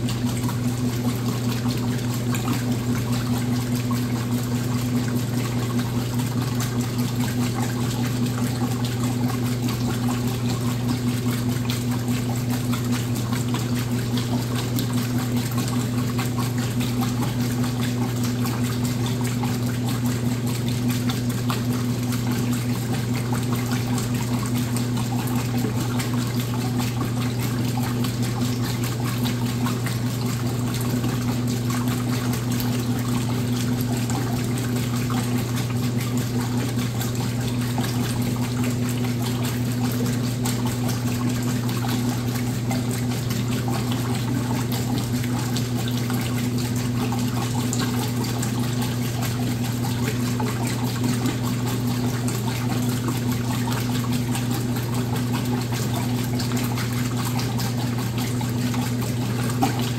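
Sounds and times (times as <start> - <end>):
moving water: 0.0 - 59.9
washing machine motor hum: 0.0 - 59.9.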